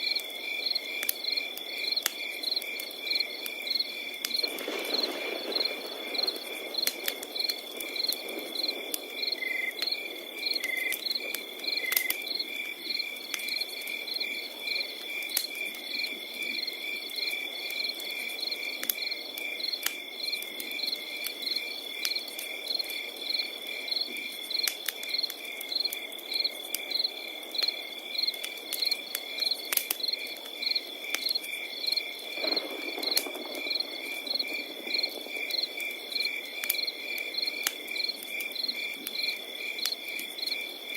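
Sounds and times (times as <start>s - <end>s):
crickets chirping: 0.0s - 40.9s
fire crackling: 0.0s - 40.9s.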